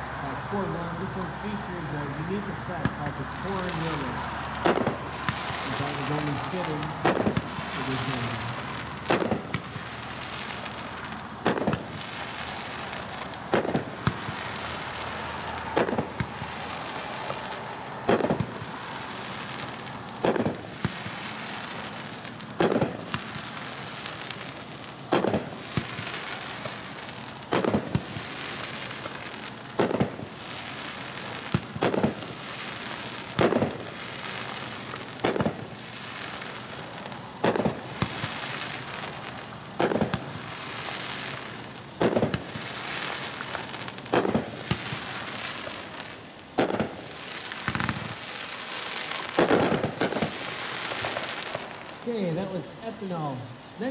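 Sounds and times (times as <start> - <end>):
distant fireworks reports: 0.0 - 53.9
steady hiss: 0.0 - 53.9.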